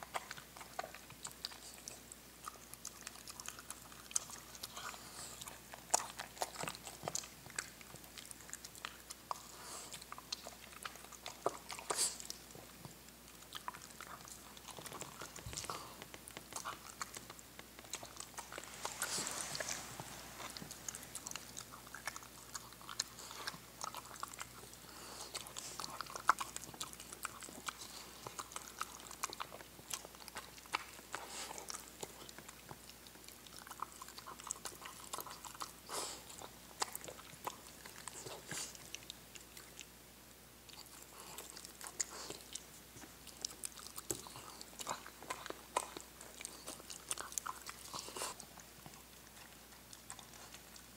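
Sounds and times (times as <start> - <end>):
dog chewing and licking: 0.0 - 50.9.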